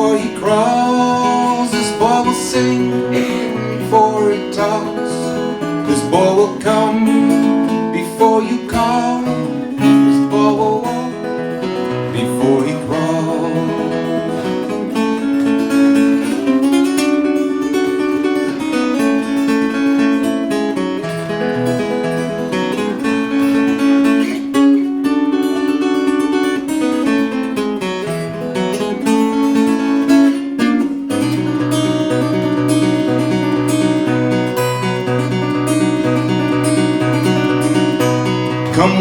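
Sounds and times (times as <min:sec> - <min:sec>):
acoustic guitar chords: 0:00.0 - 0:39.0.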